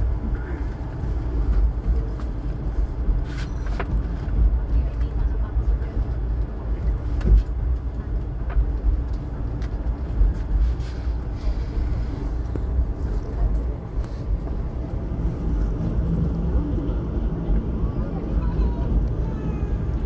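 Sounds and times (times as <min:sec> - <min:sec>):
passenger train rumbling: 0:00.0 - 0:20.0.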